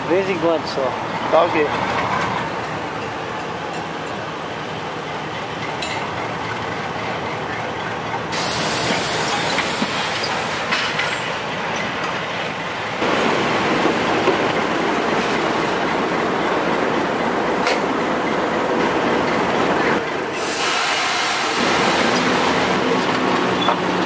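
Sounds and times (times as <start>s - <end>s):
diesel locomotive engine running: 0.0s - 24.0s
train wheels rolling on rails: 0.1s - 24.0s.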